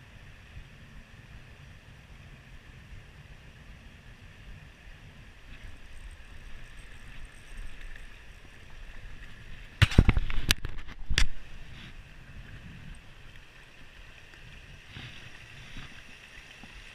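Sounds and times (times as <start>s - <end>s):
wind noise on microphone: 0.0s - 13.4s, 14.4s - 16.9s.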